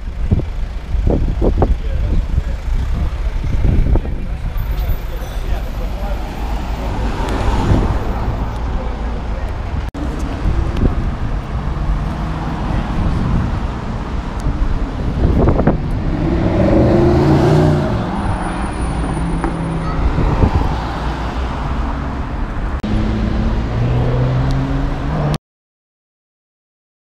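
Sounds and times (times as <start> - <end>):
car engines running: 0.0 - 25.4
cars passing: 0.0 - 25.4.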